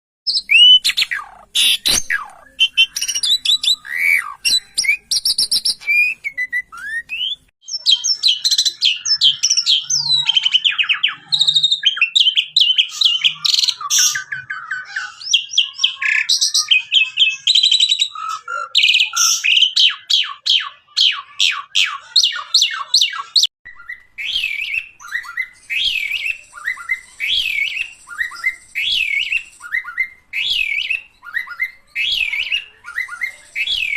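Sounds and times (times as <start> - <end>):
bird whistling call: 0.3 - 20.6, 21.2 - 33.9
starling singing: 0.3 - 33.9.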